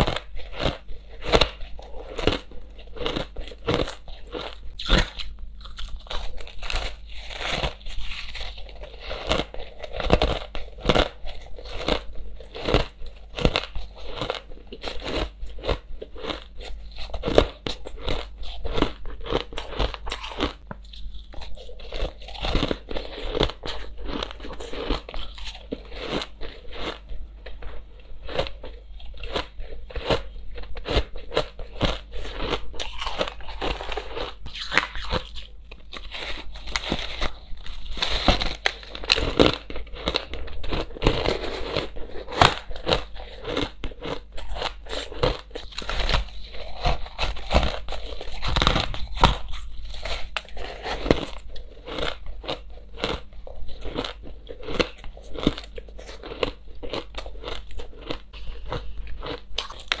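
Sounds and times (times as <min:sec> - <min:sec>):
crushed ice being chewed: 0:00.0 - 1:00.0.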